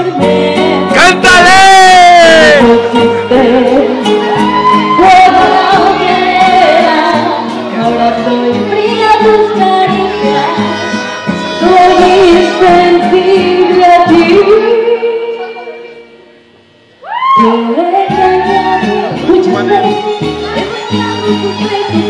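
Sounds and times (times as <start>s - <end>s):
woman singing into microphone: 0.0s - 1.0s, 2.5s - 16.0s, 17.3s - 22.0s
loud backing track: 0.0s - 22.0s.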